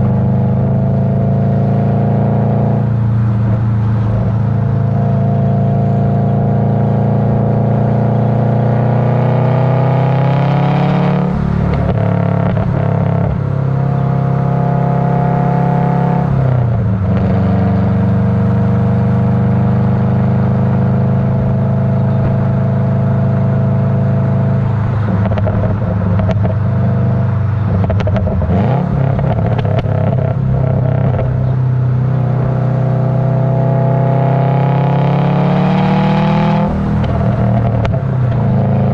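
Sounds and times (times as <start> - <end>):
car exhaust revving: 0.0 - 38.9.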